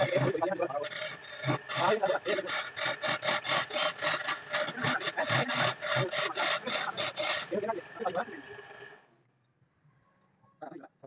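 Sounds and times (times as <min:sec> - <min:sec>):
turning tool scraping wood: 0:00.0 - 0:09.0
wood lathe running: 0:00.0 - 0:09.1.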